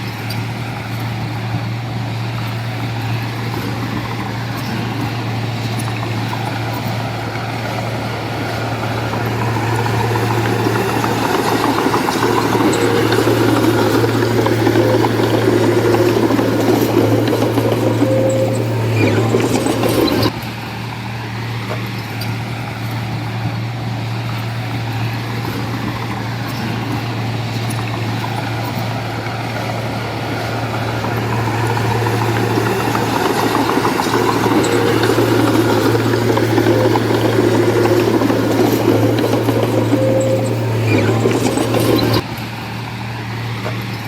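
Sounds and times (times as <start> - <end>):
diesel machinery engine running: 0.0 - 44.0.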